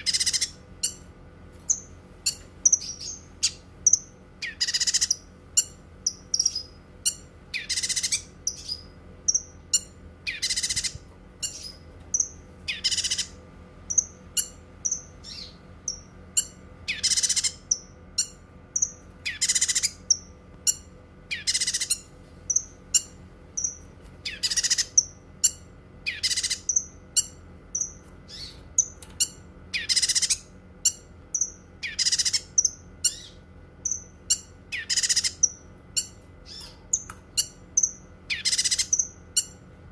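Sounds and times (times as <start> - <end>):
high chirps and ticks: 1.7 - 39.6.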